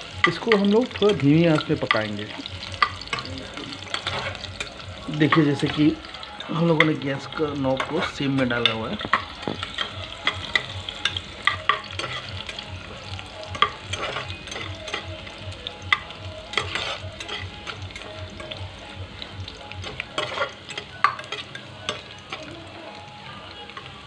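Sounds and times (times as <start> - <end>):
onions sizzling in oil: 0.0 - 24.0
metal ladle scraping pot: 0.2 - 12.7, 13.4 - 15.2, 15.8 - 18.6, 19.8 - 22.4.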